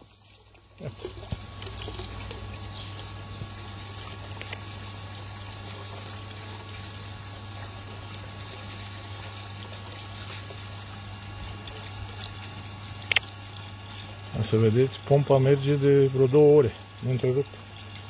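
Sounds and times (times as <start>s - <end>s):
water splashing into pool: 0.0s - 16.2s
water pouring from pipe: 0.0s - 18.0s.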